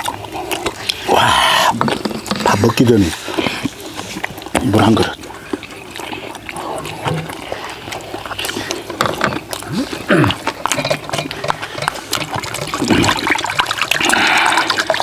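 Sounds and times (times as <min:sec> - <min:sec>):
chewing and slurping: 0:00.0 - 0:15.0.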